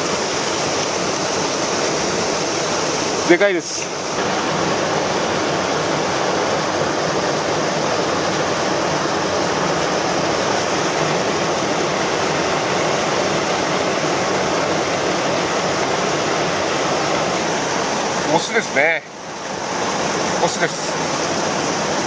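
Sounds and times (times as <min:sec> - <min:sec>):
flowing river water: 0:00.0 - 0:22.0.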